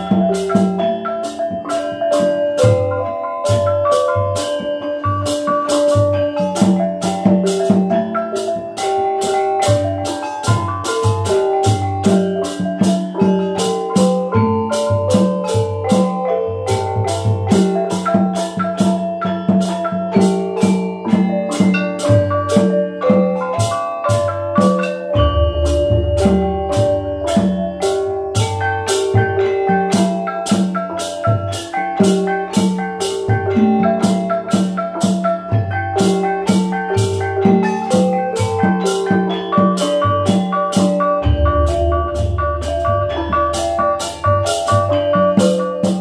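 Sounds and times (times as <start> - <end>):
kettle gongs struck with mallets: 0.0 - 46.0.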